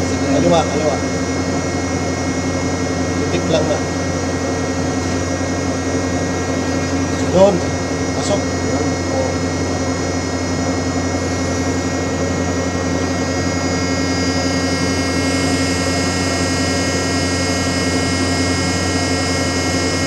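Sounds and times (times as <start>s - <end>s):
hydraulic machine hum with whine: 0.0s - 20.0s.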